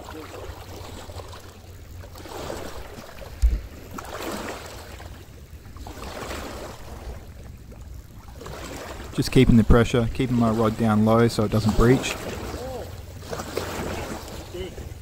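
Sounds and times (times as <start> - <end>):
waves lapping against rocks: 0.0 - 15.0.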